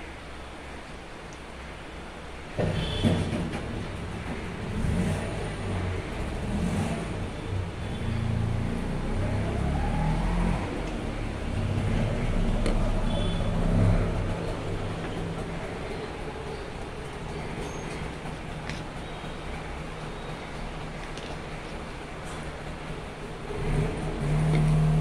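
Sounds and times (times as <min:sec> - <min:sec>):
vehicle engines rumbling: 0:00.0 - 0:25.0.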